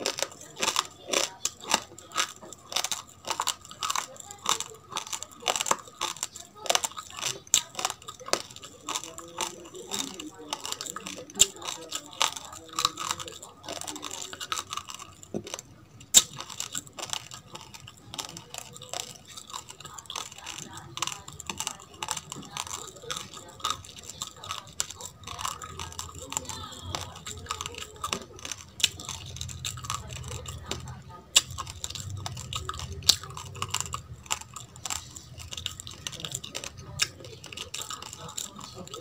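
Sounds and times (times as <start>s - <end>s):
chewing crunchy rice grains: 0.0s - 39.0s.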